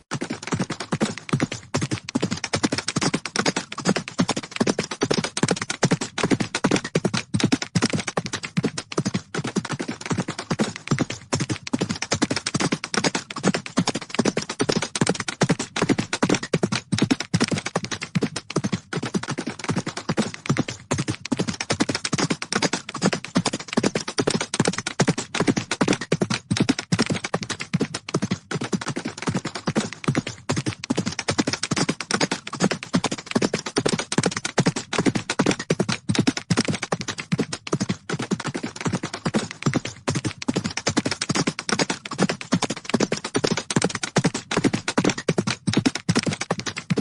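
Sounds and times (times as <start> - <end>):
horses galloping: 0.0 - 47.0.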